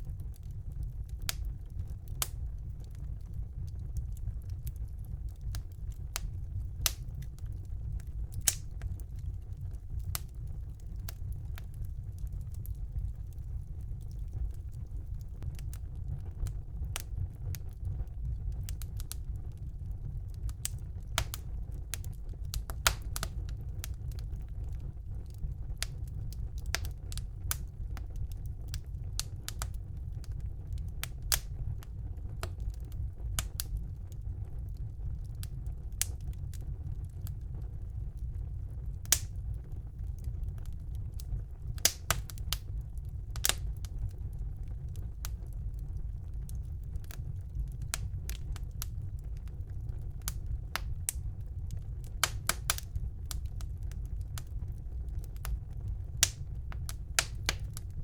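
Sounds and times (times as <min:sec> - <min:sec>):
fire crackling: 0:00.0 - 0:58.0.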